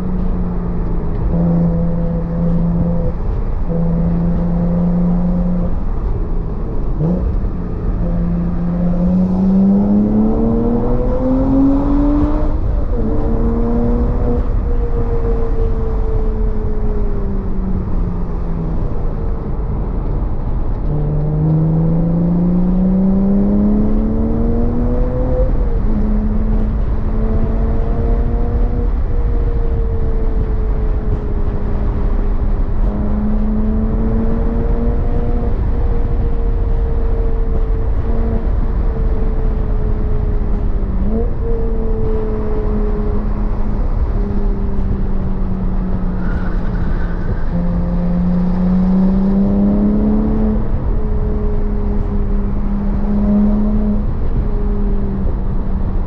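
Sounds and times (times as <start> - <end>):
car engine at speed: 0.0 - 56.0
heavy low rumble: 0.0 - 56.0.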